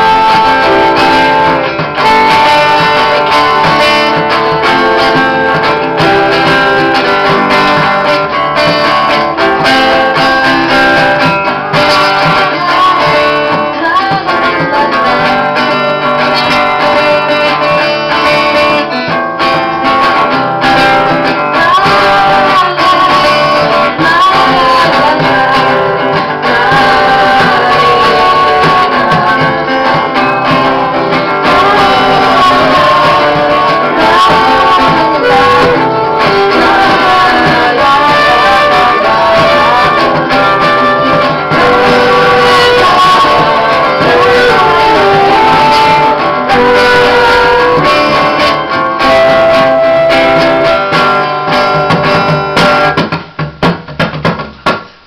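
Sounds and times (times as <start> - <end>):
saxophone: 0.0 - 19.6, 20.9 - 52.2
person singing: 0.0 - 52.7
banjo: 0.0 - 52.9
acoustic guitar: 0.0 - 55.0.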